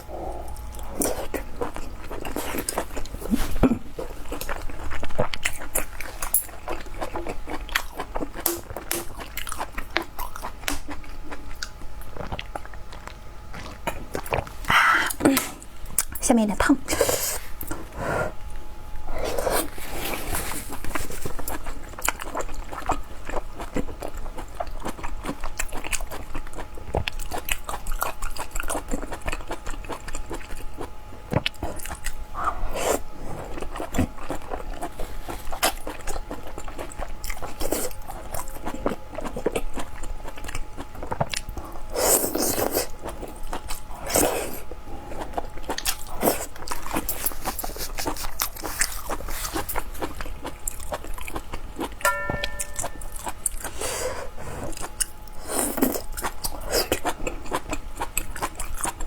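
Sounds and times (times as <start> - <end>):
chewing and biting: 0.3 - 15.2, 19.2 - 53.9, 54.5 - 59.0.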